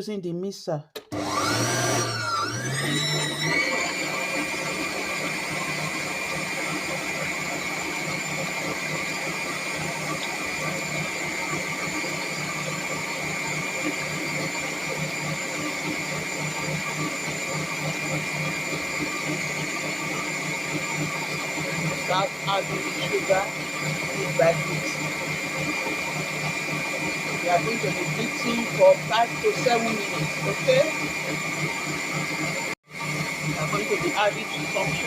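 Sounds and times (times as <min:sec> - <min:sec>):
electric mixer whining: 0:01.0 - 0:35.0.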